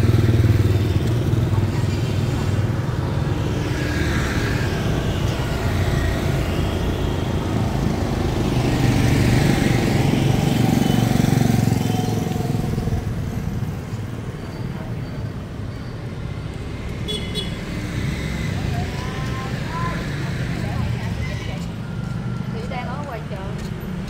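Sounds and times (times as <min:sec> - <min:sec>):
motorbikes and scooters passing: 0:00.0 - 0:24.0.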